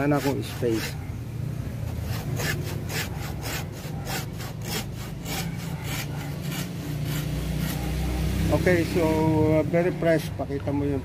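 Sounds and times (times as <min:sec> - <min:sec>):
hand saw rasping through wood: 0:00.0 - 0:01.1, 0:01.8 - 0:10.3.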